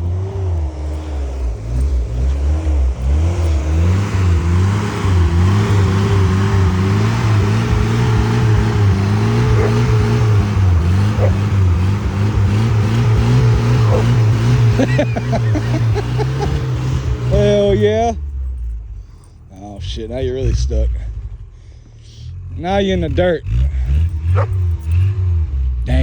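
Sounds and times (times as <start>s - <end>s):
pickup engine revving hard: 0.0s - 18.7s, 22.4s - 26.0s.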